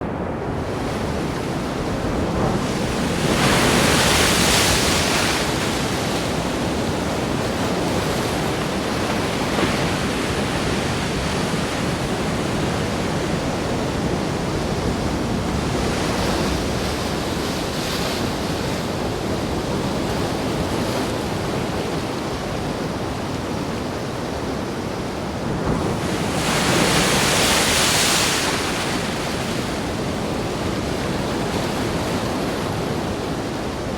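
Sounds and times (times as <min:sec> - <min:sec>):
heavy waves breaking: 0:00.0 - 0:33.9
surf rushing: 0:00.0 - 0:33.9
wind: 0:00.0 - 0:33.9.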